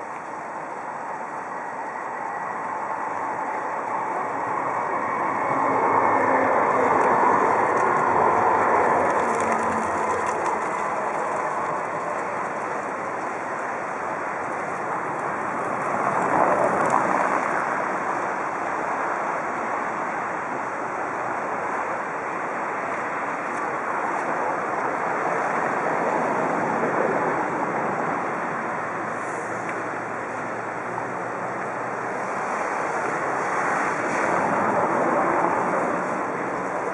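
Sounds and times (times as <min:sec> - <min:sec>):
distant city traffic: 0:00.0 - 0:36.9
wind on microphone: 0:01.1 - 0:36.9.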